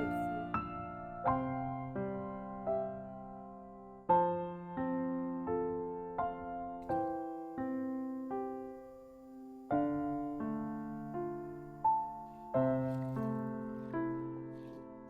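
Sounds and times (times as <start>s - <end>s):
slow gentle piano: 0.0s - 15.0s.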